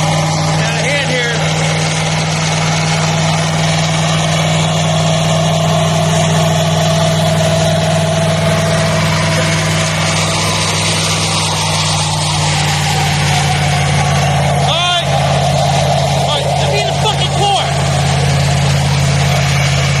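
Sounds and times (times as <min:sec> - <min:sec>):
car engine running steadily: 0:00.0 - 0:20.0.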